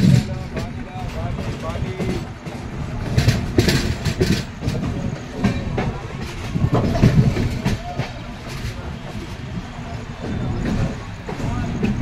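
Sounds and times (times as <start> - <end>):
train rolling rumble: 0.0 - 12.0
wheels clattering over rail joints: 0.0 - 12.0.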